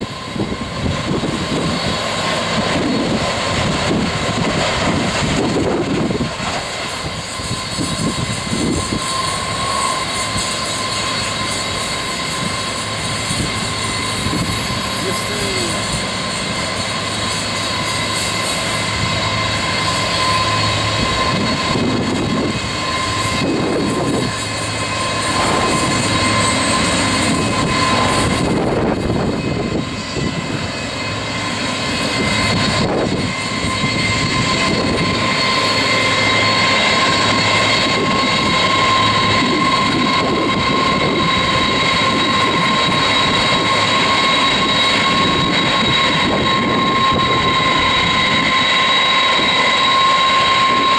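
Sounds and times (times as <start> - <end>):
jet engines running: 0.0 - 50.9.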